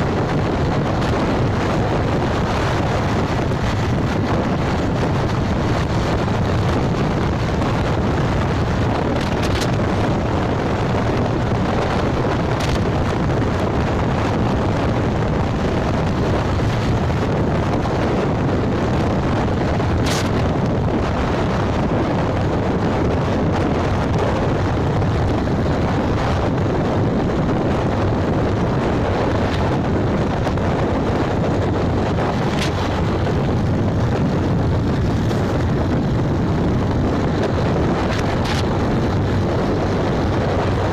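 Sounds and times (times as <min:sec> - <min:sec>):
road noise: 0:00.0 - 0:40.9
wind rushing on microphone: 0:00.0 - 0:40.9.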